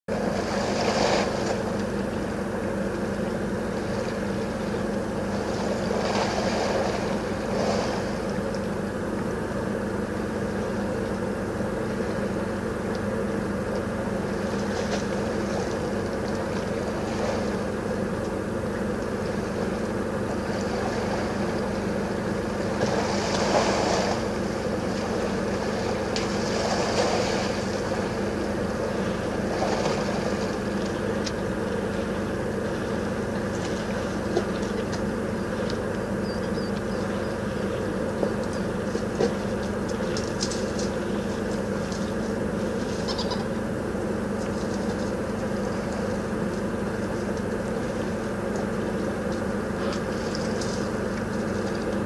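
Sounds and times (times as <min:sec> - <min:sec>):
water and mud sloshing: 0:00.1 - 0:09.2, 0:10.6 - 0:52.0
steady low hum: 0:00.1 - 0:52.0.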